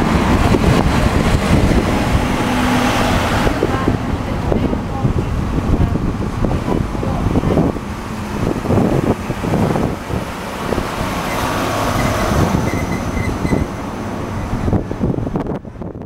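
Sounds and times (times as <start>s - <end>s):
train running past: 0.0s - 15.3s.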